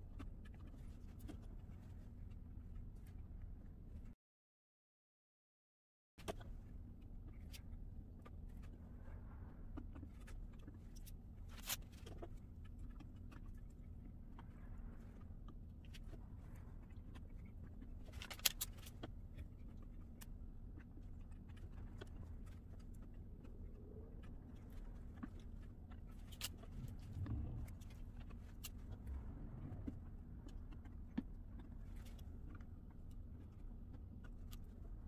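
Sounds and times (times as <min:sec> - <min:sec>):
low steady hum: 0:06.2 - 0:35.0.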